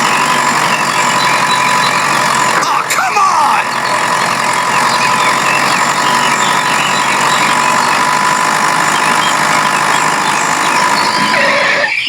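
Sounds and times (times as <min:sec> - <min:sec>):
mini tractor motor drone: 0:00.0 - 0:12.0.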